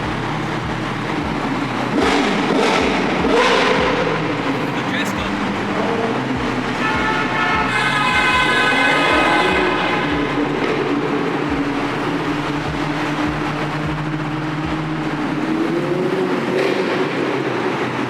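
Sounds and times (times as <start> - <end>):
low thumps: 0.0 - 16.9
car engine running at low revs: 0.0 - 18.0.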